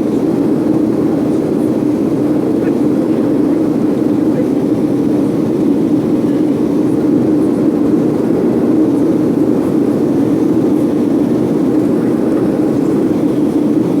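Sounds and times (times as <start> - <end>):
jet airliner taking off: 0.0 - 14.0.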